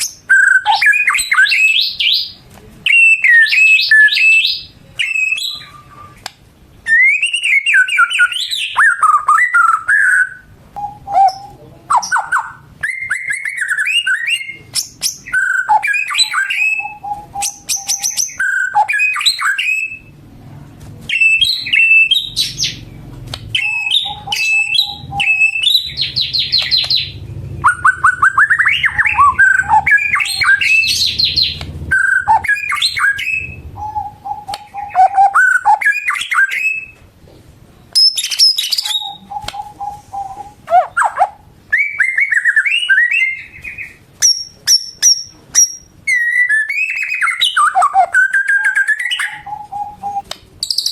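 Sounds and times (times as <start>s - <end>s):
bird whistling and trilling: 0.0s - 6.2s, 6.9s - 20.1s, 21.1s - 22.8s, 23.5s - 37.0s, 38.0s - 50.9s.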